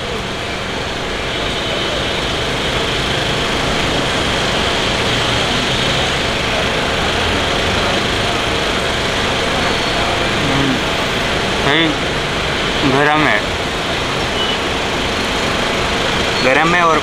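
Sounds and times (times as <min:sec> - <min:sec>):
engine drone: 0:00.0 - 0:17.0
high whine: 0:00.0 - 0:17.0.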